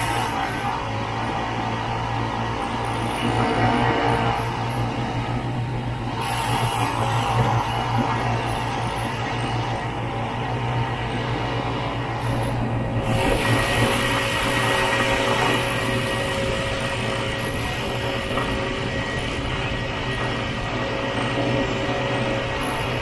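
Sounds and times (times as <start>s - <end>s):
rushing noise: 0.0s - 23.0s
snowmobile engine running: 0.0s - 23.0s.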